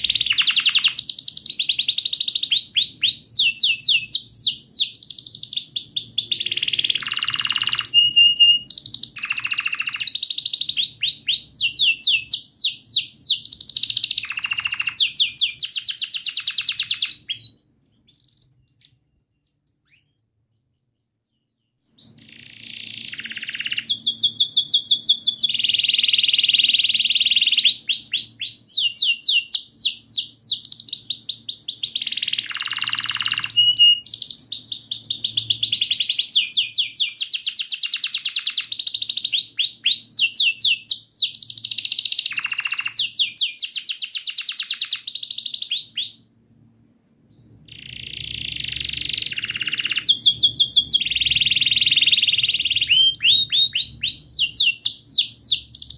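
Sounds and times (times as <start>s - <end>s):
canary singing trills: 0.0s - 46.3s, 47.3s - 55.9s.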